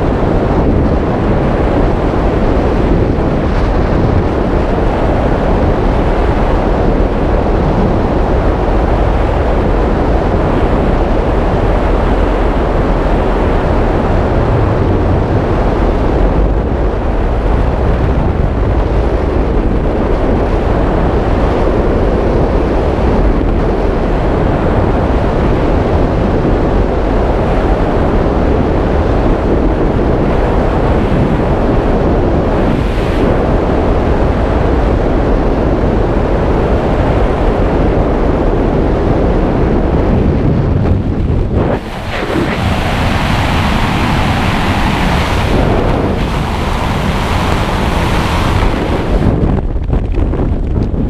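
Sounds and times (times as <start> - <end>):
wind roaring over microphone: 0.0 - 51.0.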